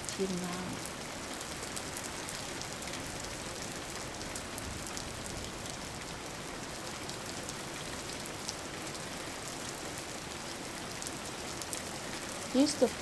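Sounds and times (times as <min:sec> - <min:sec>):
rain pattering on hard surface: 0:00.0 - 0:13.0.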